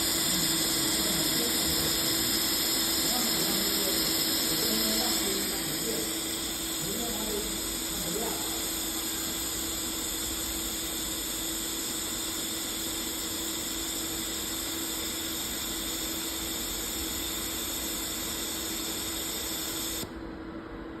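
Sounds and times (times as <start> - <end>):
laser welding machine hiss and hum: 0.0 - 21.0.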